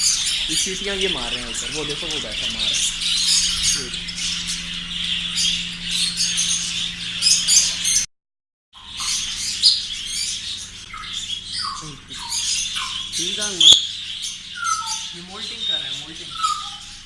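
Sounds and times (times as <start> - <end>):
caged birds chirping and whistling: 0.0 - 8.1, 8.8 - 17.0.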